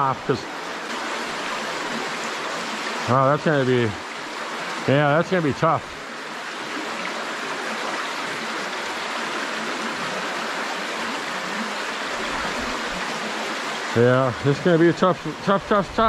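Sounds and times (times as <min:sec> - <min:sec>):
creek flowing water: 0:00.0 - 0:16.0.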